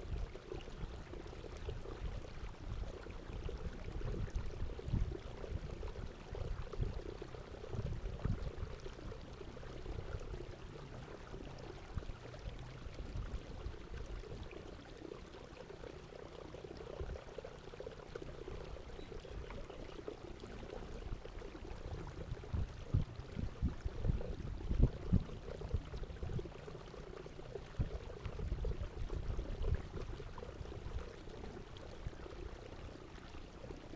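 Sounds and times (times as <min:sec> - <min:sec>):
water sloshing and trickling: 0:00.0 - 0:33.9.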